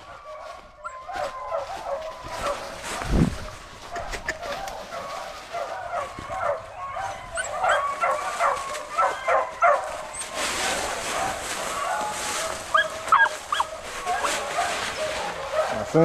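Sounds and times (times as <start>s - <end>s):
dogs yipping and whining: 0.0s - 16.0s.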